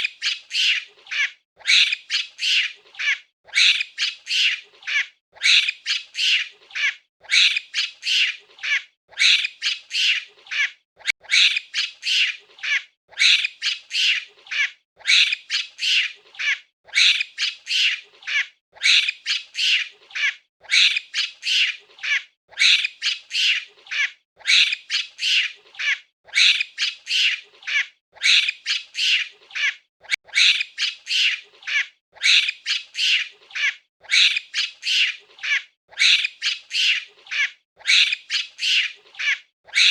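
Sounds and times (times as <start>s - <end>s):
monkey high-pitched calls: 0.0s - 39.9s.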